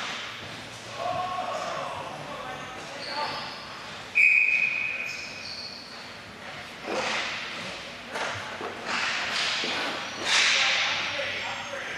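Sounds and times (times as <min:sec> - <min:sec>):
skates and sticks scraping rink: 0:00.0 - 0:04.1, 0:05.1 - 0:11.8.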